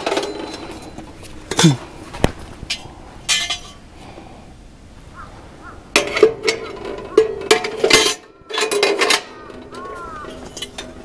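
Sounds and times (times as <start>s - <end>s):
metal parts clanking: 0.0s - 3.8s, 6.0s - 11.0s.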